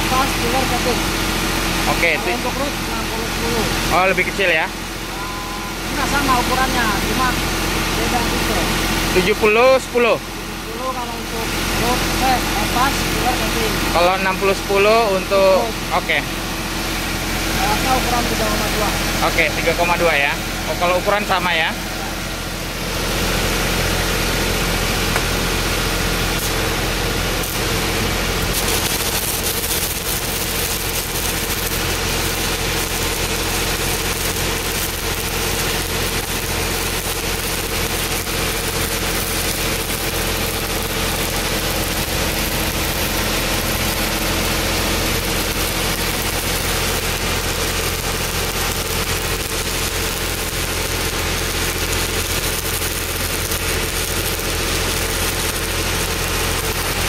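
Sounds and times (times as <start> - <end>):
engine hum: 0.0 - 57.0
welding arc crackling: 0.0 - 57.0.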